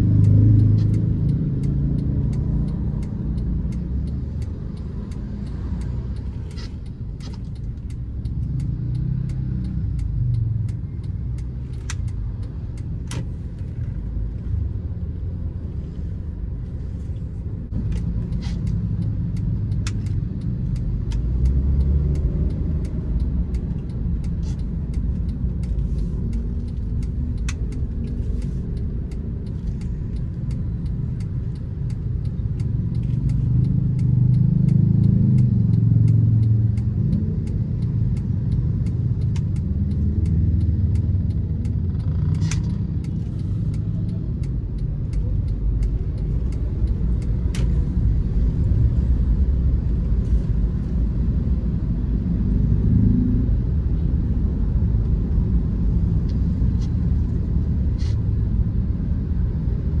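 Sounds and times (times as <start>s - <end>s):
car engine: 0.0s - 60.0s
road rumble: 0.0s - 60.0s.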